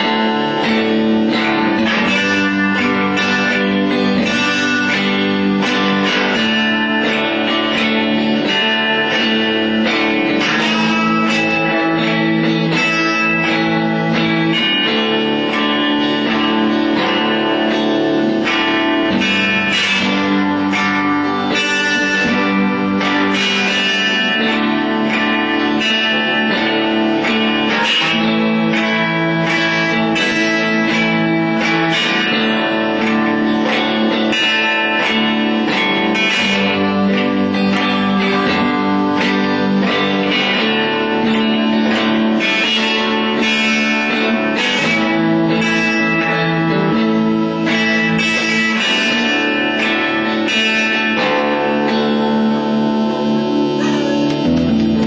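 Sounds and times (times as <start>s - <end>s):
cigar box guitar: 0.0s - 55.0s
electric guitar: 0.0s - 55.0s.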